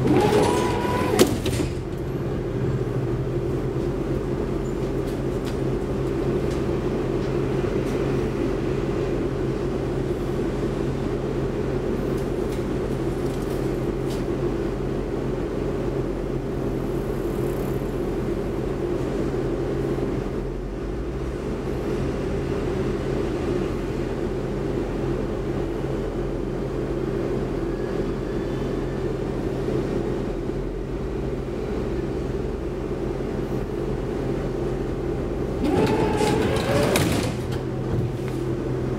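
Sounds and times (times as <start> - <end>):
tram electrical hum: 0.0 - 38.9.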